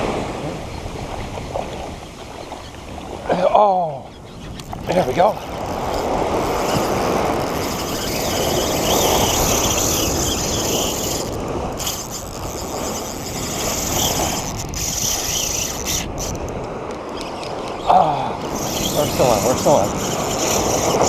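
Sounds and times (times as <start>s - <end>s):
wind buffeting microphone: 0.0s - 3.3s, 4.0s - 21.0s
small waves washing on sand: 0.0s - 3.4s, 4.0s - 21.0s.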